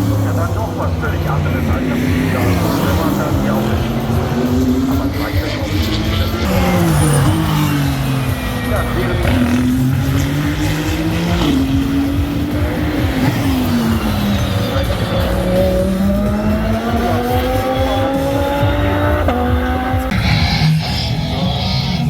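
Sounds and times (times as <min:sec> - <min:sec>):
gear change: 0:00.0 - 0:22.0
race car engine at high revs: 0:00.0 - 0:22.0.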